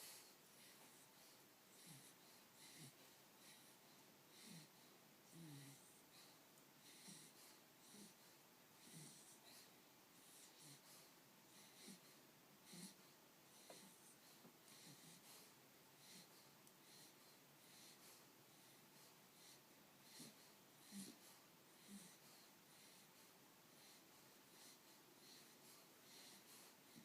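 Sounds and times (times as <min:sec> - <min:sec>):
wheezy snoring breaths: 0:00.0 - 0:27.0.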